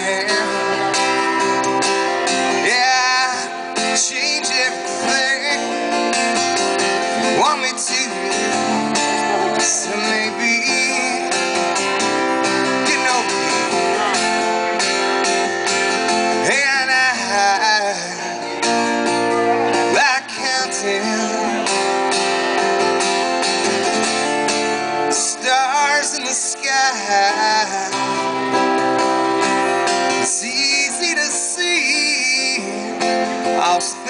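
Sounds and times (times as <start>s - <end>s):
man singing: 0.0s - 14.9s, 16.1s - 22.4s, 24.8s - 34.0s
strummed acoustic guitar: 0.0s - 34.0s.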